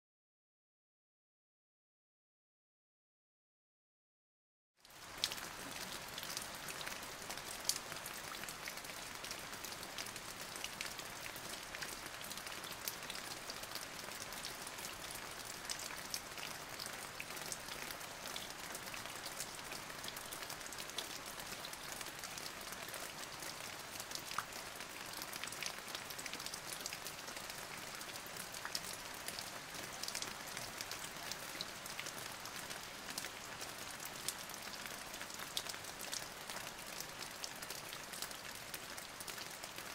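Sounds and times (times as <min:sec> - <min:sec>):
steady rain hiss: 0:04.9 - 0:39.9.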